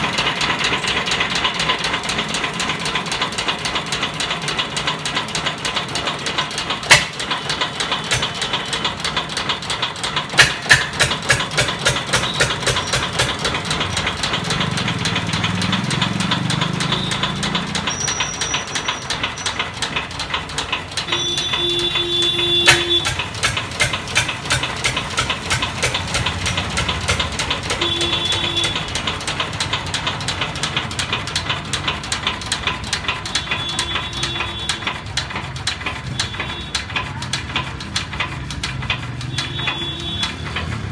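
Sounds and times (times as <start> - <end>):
diesel engine knocking: 0.0 - 40.9
sharp clacks: 0.0 - 40.9.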